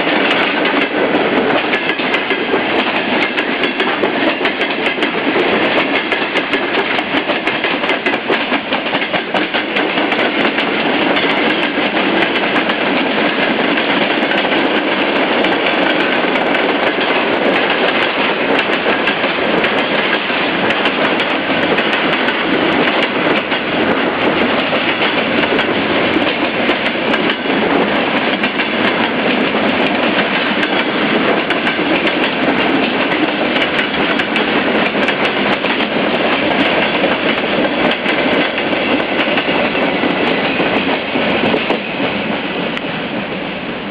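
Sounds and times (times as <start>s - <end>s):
wheels clacking over rail joints: 0.0s - 43.3s
freight train rumbling past: 0.0s - 43.9s.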